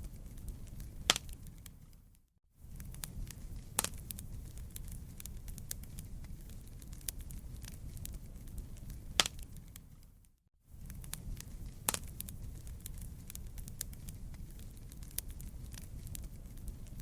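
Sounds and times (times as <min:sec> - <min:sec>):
burning wood popping and snapping: 0:00.0 - 0:02.0, 0:02.7 - 0:10.2, 0:10.8 - 0:17.0
low rush of flame: 0:00.0 - 0:17.0.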